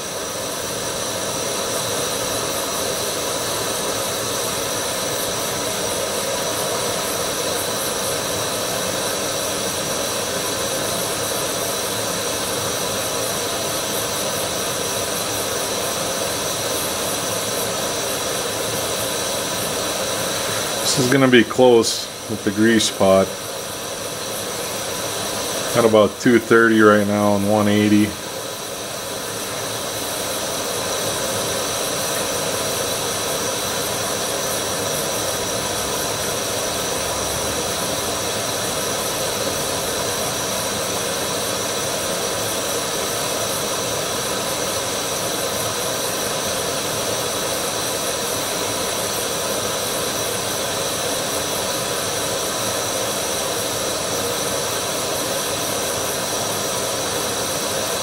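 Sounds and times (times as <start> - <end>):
gas stove burner hissing: 0.0 - 58.0.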